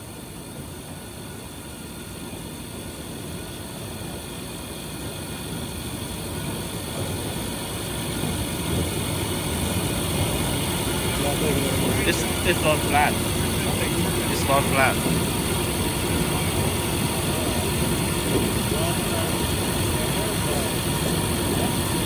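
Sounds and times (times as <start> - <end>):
milling machine running: 3.0 - 22.0.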